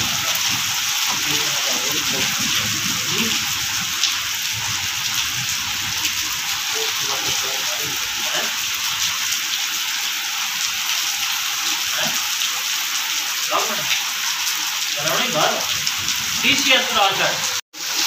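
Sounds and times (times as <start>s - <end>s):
heavy rain on paving: 0.0s - 18.0s.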